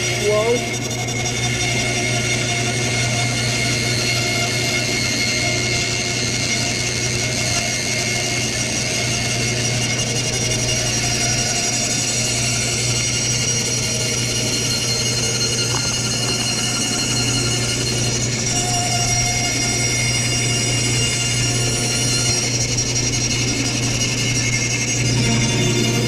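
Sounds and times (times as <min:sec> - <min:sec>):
bandsaw cutting wood: 0:00.0 - 0:26.0.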